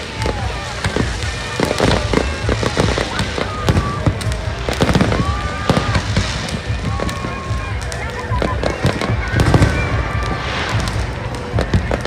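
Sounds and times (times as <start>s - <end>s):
fireworks bangs and crackling: 0.0s - 12.0s
fireworks whistling: 0.0s - 12.0s.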